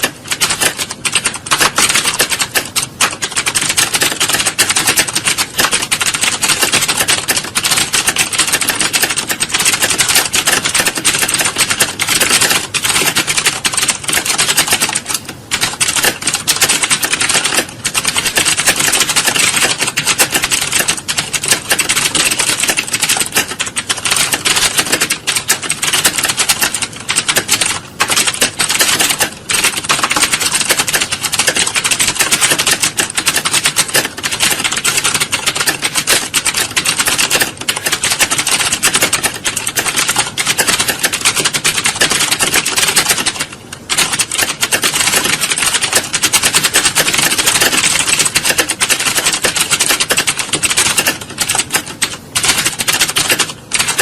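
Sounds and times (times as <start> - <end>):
keyboards typing clatter: 0.0 - 54.0.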